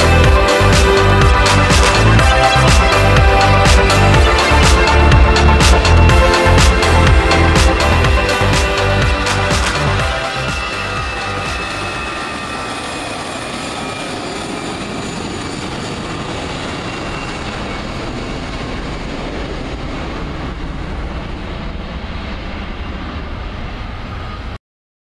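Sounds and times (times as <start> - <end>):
jet engines running: 0.0 - 24.6.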